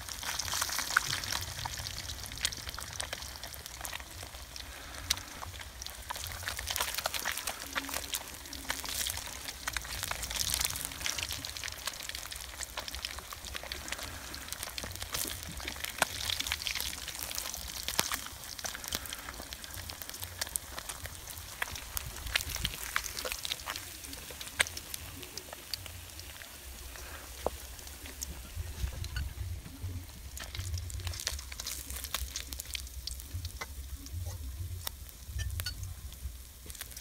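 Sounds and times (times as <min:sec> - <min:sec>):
fish frying in hot oil: 0:00.0 - 0:37.0.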